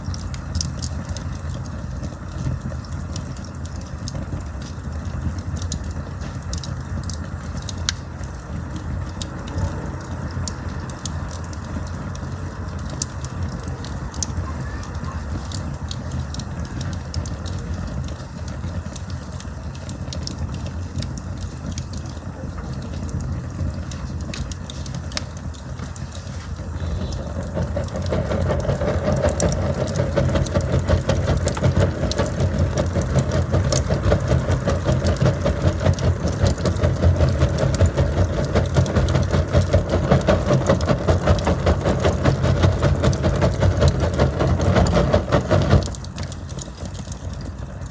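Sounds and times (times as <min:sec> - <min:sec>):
campfire flame rumble: 0:00.0 - 0:47.9
fire crackles and pops: 0:00.0 - 0:47.9.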